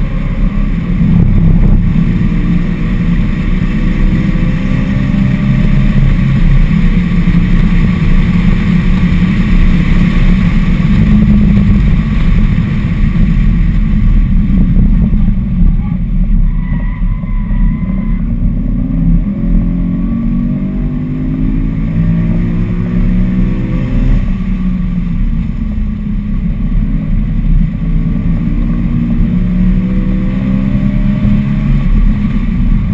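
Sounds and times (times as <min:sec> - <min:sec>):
car engine accelerating: 0:00.0 - 0:32.9
low road rumble: 0:00.0 - 0:32.9.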